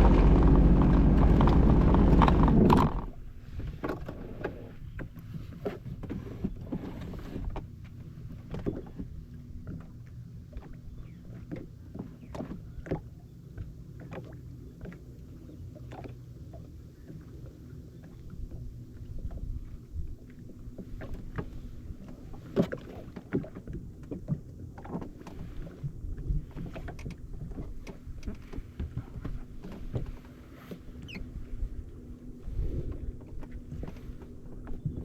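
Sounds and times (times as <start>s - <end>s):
jet ski engine hum: 0.0s - 35.0s
waves slapping against hull: 0.0s - 35.0s.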